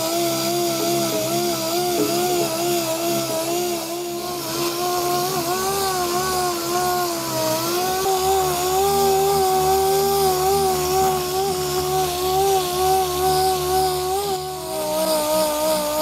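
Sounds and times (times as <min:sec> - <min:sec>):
power sander whining: 0:00.0 - 0:16.0.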